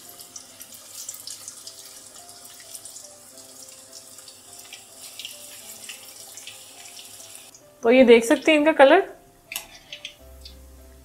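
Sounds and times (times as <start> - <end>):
batter deep-frying in oil: 0.0 - 8.6, 9.4 - 11.0
faint music: 0.0 - 11.0.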